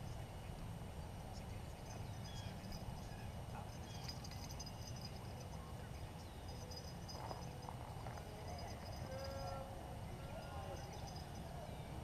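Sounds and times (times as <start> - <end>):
faint bird chirps: 1.3 - 12.0.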